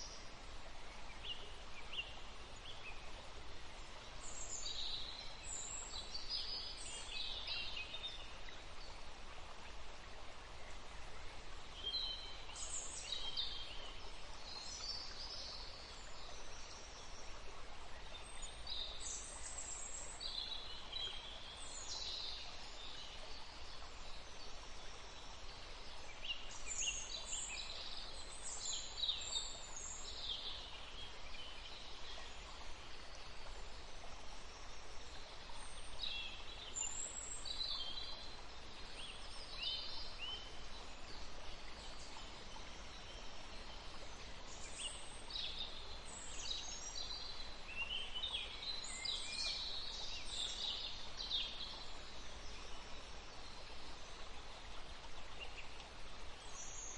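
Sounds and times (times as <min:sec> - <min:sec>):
forest birds chirping: 0:00.0 - 0:56.9.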